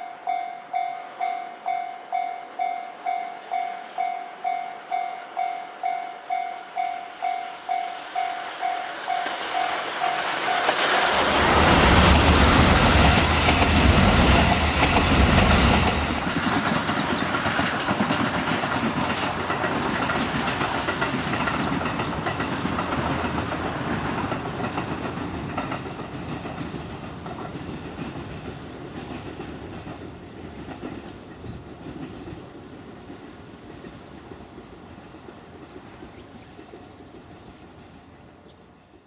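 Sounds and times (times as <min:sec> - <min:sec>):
steam train passing: 0:00.0 - 0:39.0
wheels clattering over rail joints: 0:05.8 - 0:37.6.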